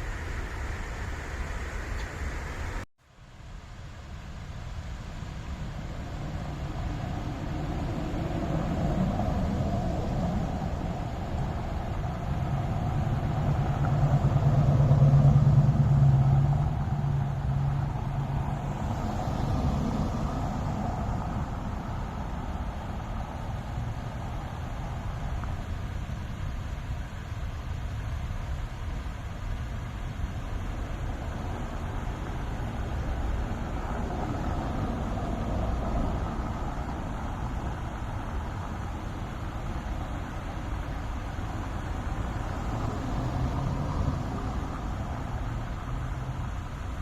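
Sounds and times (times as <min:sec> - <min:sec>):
low traffic rumble: 0:00.0 - 0:47.0
vehicle engine humming: 0:04.8 - 0:47.0.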